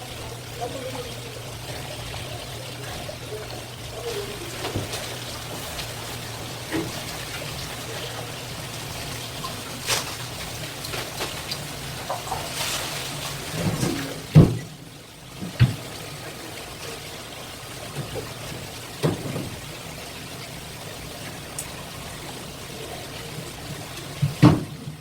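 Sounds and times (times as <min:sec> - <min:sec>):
water running and trickling: 0:00.0 - 0:25.0.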